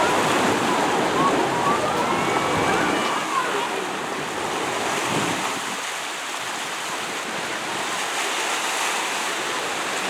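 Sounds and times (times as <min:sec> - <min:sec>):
surf rushing: 0:00.0 - 0:10.0.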